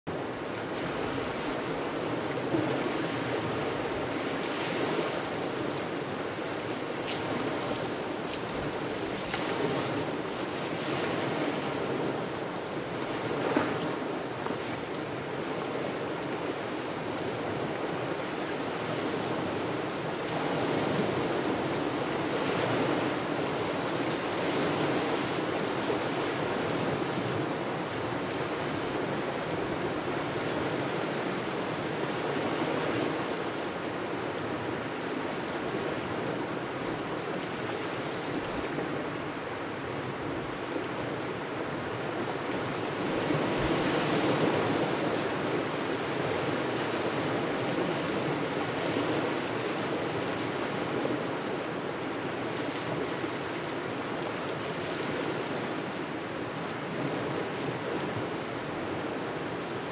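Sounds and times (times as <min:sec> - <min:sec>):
small waves washing on shore: 0:00.1 - 0:59.9
steady wind: 0:00.1 - 0:59.9.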